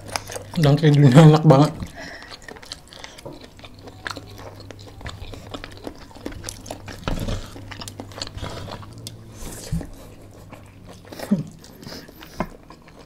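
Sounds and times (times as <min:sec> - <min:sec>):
close chewing and crunching food: 0:00.0 - 0:13.0.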